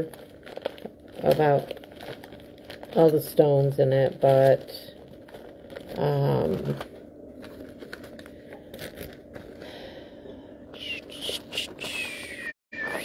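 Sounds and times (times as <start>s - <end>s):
wrapping crinkling: 0.0s - 12.3s.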